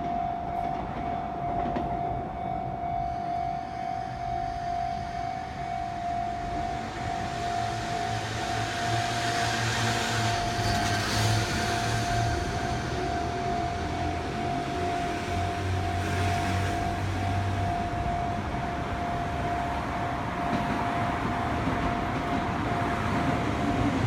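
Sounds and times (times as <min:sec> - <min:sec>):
level crossing warning bell: 0:00.0 - 0:24.0
train rumbling: 0:00.0 - 0:24.0.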